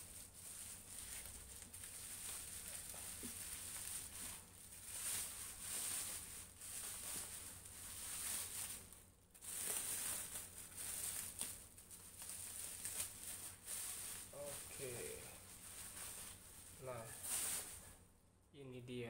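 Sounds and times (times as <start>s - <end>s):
bubble wrap crinkling: 0.0s - 18.1s.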